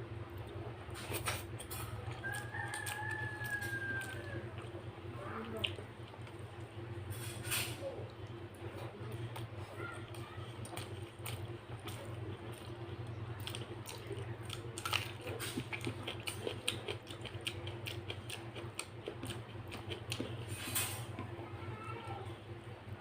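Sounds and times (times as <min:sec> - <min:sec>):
chewing and eating sounds: 0:00.0 - 0:22.4
steady low hum: 0:00.0 - 0:23.0.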